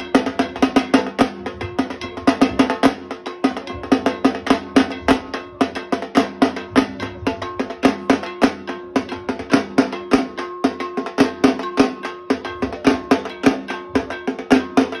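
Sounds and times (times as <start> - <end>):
barrel drum beaten with sticks: 0.0 - 15.0.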